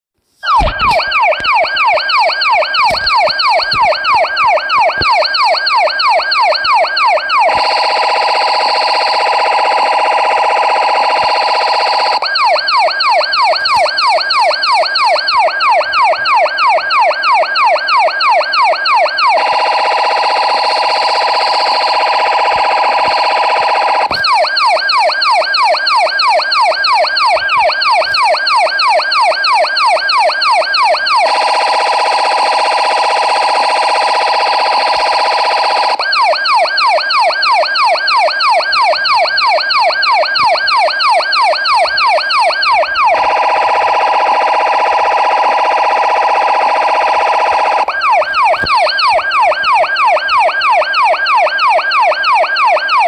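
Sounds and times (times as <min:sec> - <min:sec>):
electronic police siren: 0:00.4 - 0:53.0.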